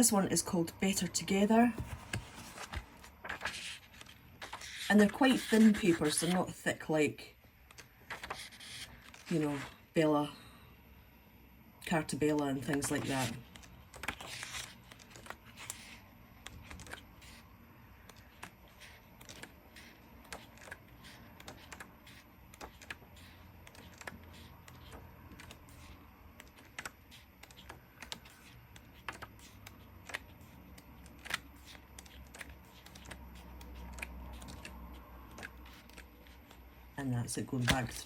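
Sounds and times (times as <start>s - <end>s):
paper pages flipping: 1.7s - 6.4s, 7.6s - 9.8s, 12.6s - 36.6s, 37.6s - 38.0s.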